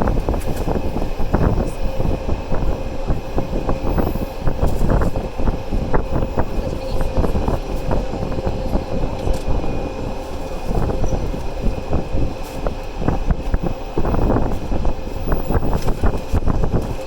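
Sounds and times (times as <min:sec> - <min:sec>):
train knocks and rattles: 0:00.0 - 0:17.0
train wheels rumbling on rails: 0:00.0 - 0:17.0.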